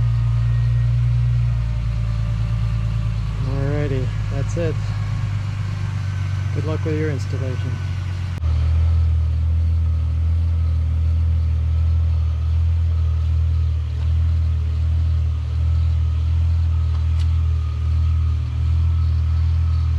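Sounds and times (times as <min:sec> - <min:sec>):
car engine humming: 0:00.0 - 0:19.9.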